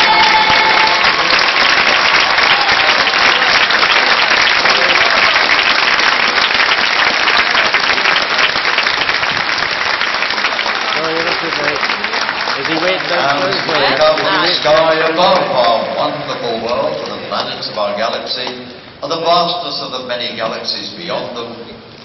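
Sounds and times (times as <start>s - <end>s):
large crowd applauding: 0.0s - 18.2s.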